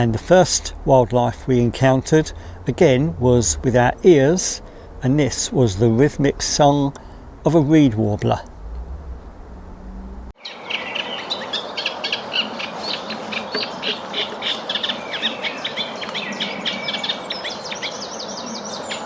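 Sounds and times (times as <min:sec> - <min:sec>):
reed warbler singing: 0:00.0 - 0:19.0
steady outdoor hiss: 0:00.0 - 0:19.0
wren singing: 0:00.0 - 0:19.0.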